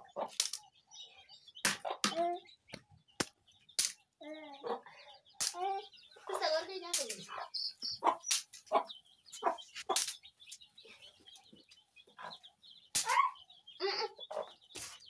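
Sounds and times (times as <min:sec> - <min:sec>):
hen clucking: 0:00.0 - 0:02.8, 0:04.4 - 0:15.0
chicks peeping: 0:00.0 - 0:15.0.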